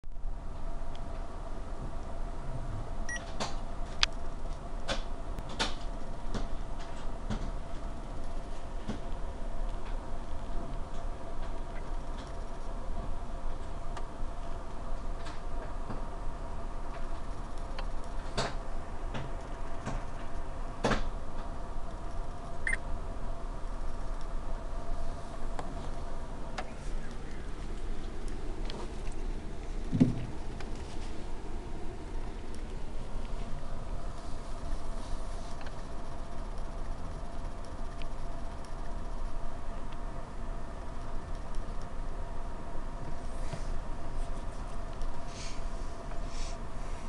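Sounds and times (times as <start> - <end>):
train car low hum: 0.0 - 47.0.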